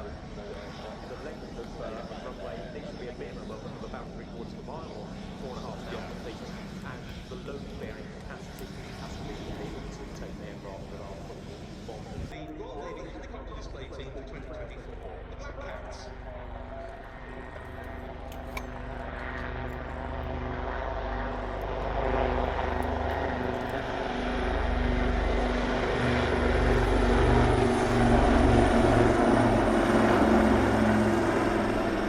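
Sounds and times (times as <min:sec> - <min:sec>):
helicopter rotor beat: 0:00.0 - 0:32.0
helicopter turbine engines humming: 0:00.0 - 0:32.0.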